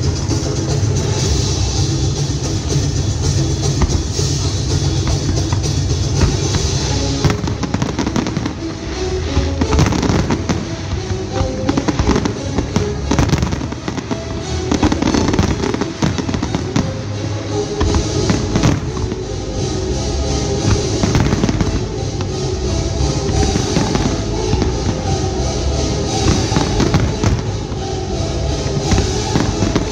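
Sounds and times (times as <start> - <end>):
fireworks bursting and crackling: 0.0 - 29.9
music: 0.0 - 29.9.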